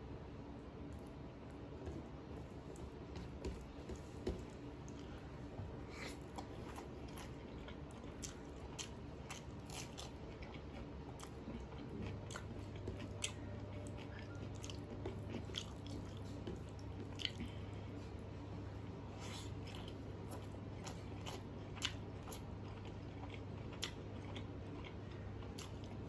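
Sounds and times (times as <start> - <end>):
steady low hum: 0.0 - 26.0
close chewing of food: 0.8 - 18.2, 19.2 - 26.0.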